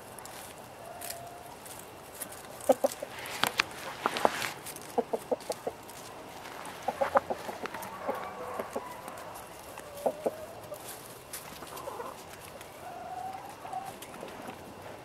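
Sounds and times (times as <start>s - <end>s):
chickens clucking: 0.2s - 15.0s.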